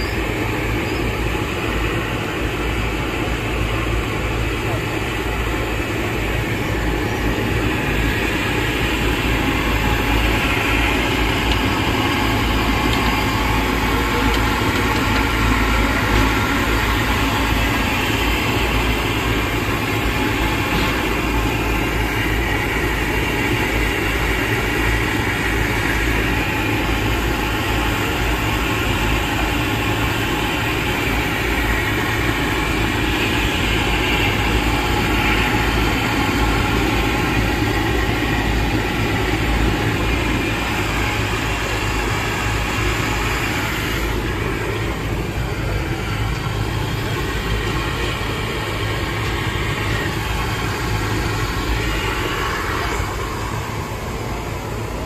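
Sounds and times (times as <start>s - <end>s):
low engine-like rumble: 0.0s - 55.0s.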